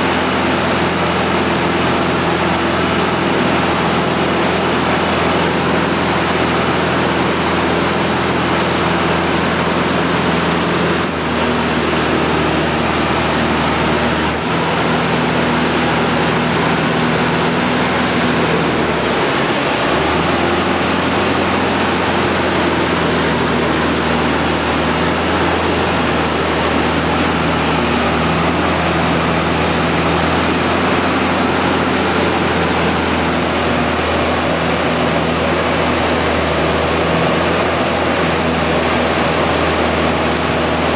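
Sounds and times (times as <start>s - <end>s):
plane engine and propeller: 0.0s - 40.9s.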